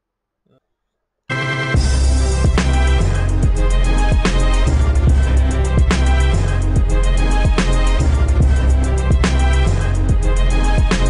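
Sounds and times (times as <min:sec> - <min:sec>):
music with deep bass and drums: 0:01.8 - 0:11.0.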